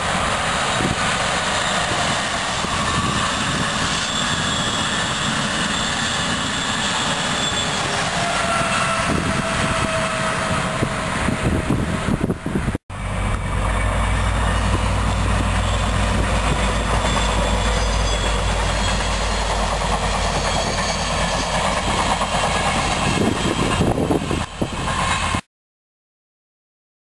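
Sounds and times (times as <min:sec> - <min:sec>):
locomotive engine drone: 0:00.0 - 0:25.4
train wheels on rails: 0:00.0 - 0:25.5.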